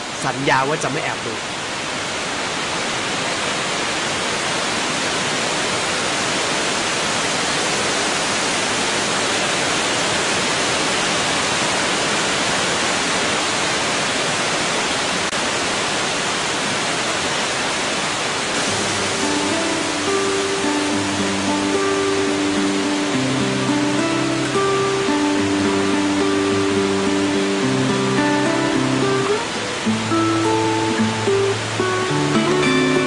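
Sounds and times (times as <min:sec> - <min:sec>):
waterfall pouring into a pool: 0:00.3 - 0:33.0.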